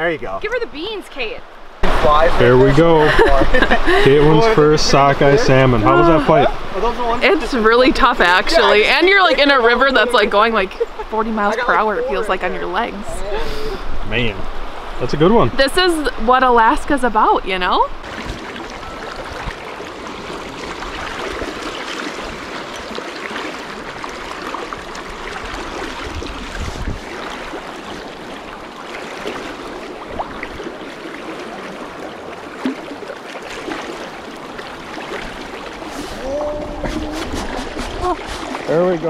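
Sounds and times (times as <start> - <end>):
river current rushing: 0.0 - 39.0.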